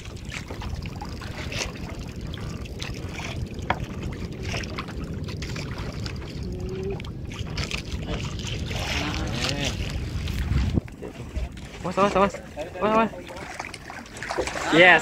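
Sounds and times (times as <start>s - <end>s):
water around boat: 0.0s - 15.0s
wind: 0.0s - 15.0s.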